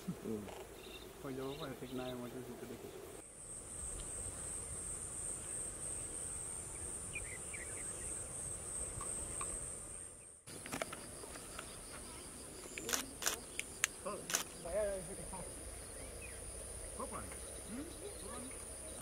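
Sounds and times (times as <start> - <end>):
faint insect chirps: 0.0 - 19.0
high-pitched insect chorus: 0.0 - 19.0.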